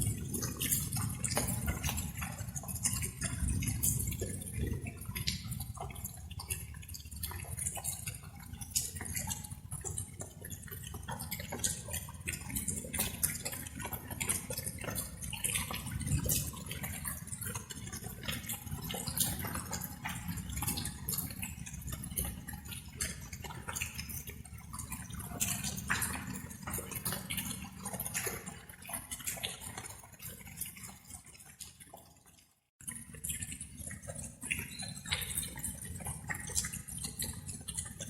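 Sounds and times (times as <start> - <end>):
rain drops pattering: 0.0 - 38.0.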